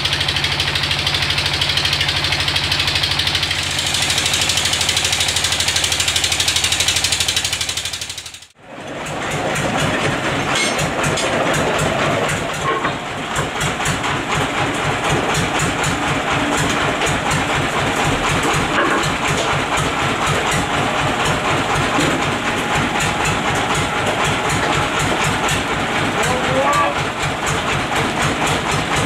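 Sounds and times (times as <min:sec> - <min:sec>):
rapid mechanical clatter: 0:00.0 - 0:29.0
sawmill machinery rumble: 0:00.0 - 0:29.0.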